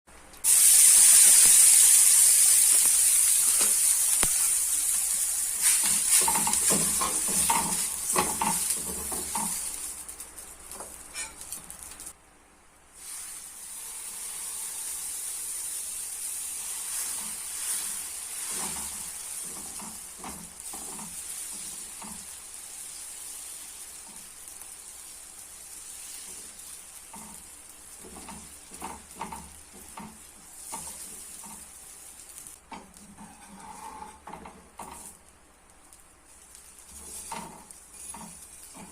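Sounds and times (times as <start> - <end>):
batter sizzling on a griddle: 0.3 - 12.2, 12.8 - 38.9.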